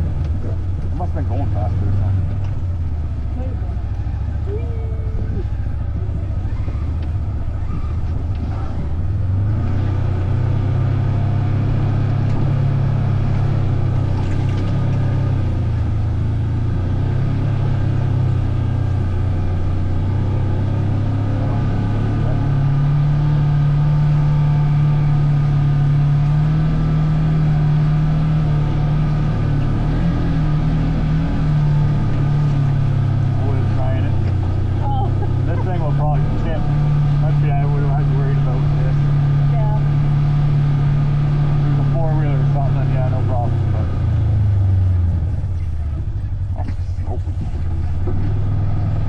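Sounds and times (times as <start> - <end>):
vehicle engine running: 0.0 - 49.0.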